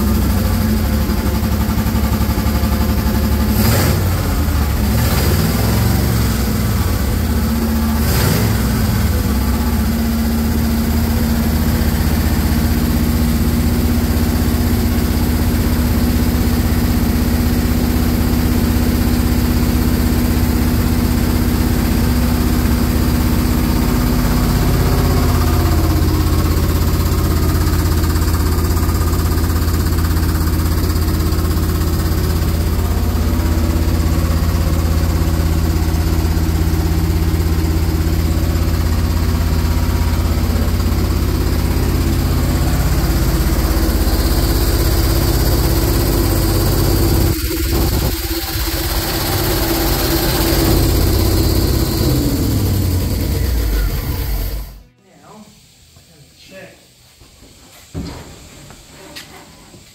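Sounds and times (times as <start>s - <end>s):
truck engine idling: 0.0s - 54.8s.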